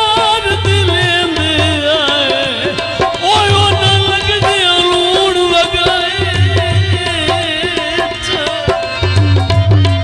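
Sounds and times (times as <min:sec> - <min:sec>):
harmonium: 0:00.0 - 0:10.0
tabla strokes: 0:00.0 - 0:10.0.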